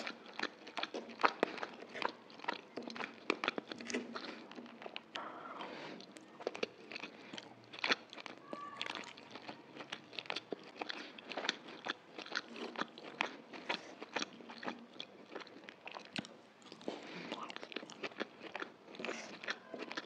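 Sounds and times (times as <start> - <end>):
wet chewing and mouth clicks: 0.0 - 20.0.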